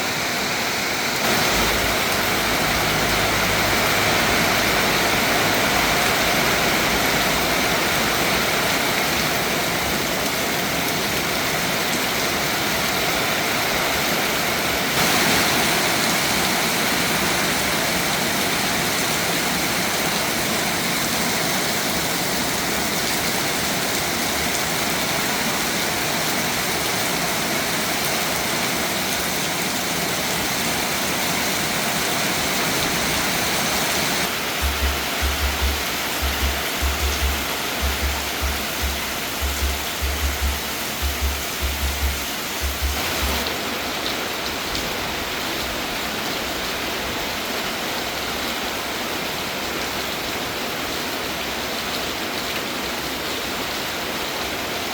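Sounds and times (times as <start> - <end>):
heavy rainfall: 0.0 - 54.9.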